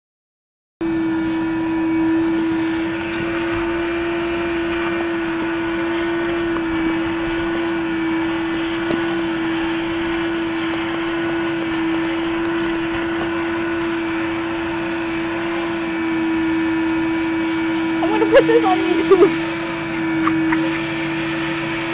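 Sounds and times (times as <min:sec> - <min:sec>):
vacuum cleaner motor humming: 0:00.8 - 0:21.9.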